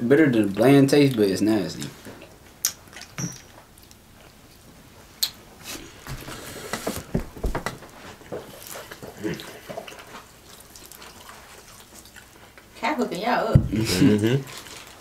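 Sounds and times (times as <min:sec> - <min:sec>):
people chewing food: 0:00.2 - 0:12.8, 0:13.6 - 0:15.0.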